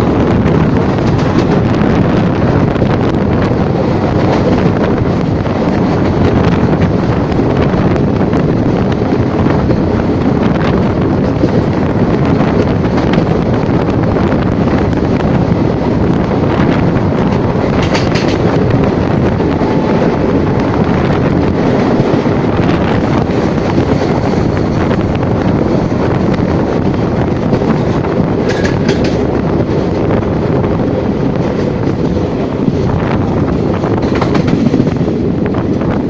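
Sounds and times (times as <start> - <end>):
train rumbling on tracks: 0.0 - 36.0
wind noise on microphone: 0.0 - 36.0.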